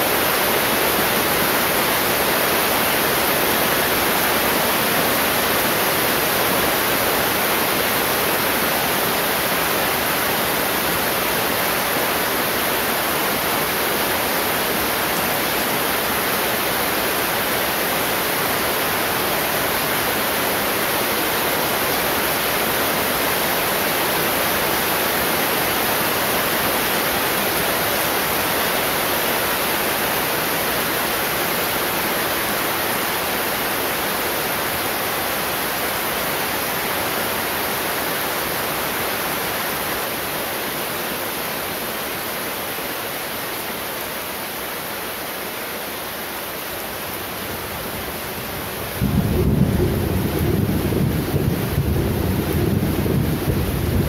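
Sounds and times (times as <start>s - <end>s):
heavy rain on netting: 0.0s - 54.0s.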